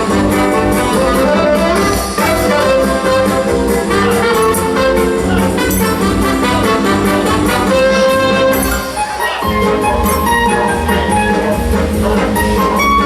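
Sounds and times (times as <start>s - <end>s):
brass music over steady beat: 0.0s - 13.0s.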